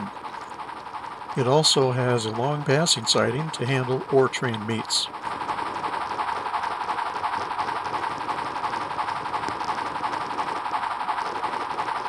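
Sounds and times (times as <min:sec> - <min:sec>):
model train whirring on track: 0:00.0 - 0:12.0.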